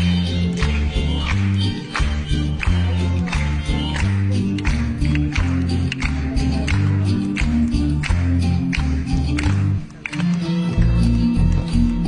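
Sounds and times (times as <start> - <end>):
acoustic bass guitar: 0.0 - 12.0
orchestral dance music: 0.0 - 12.0.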